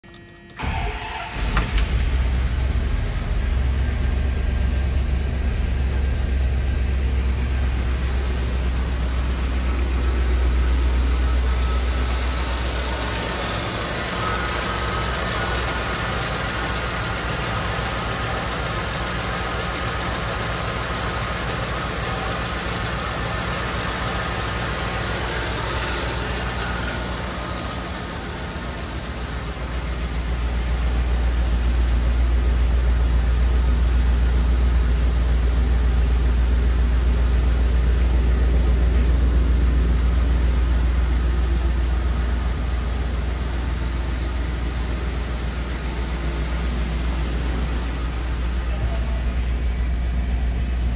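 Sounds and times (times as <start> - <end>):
car engine idling: 0.6 - 50.9
deep exhaust rumble: 0.6 - 50.9.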